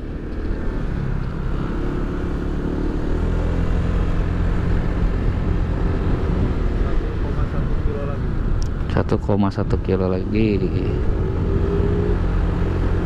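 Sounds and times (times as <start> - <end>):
scooter engine droning: 0.0 - 8.6, 9.7 - 13.0
road and wind noise: 0.0 - 13.0.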